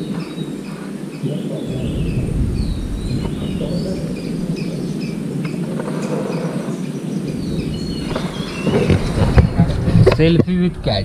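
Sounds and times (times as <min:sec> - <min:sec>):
small birds chirping: 0:00.0 - 0:10.7
steady low rumble: 0:01.5 - 0:11.0.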